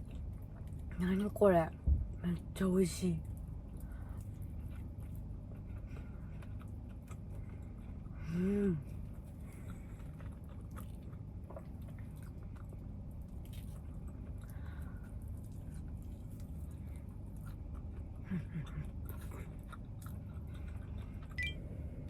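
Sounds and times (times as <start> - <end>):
chewing and eating: 0.0 - 22.0.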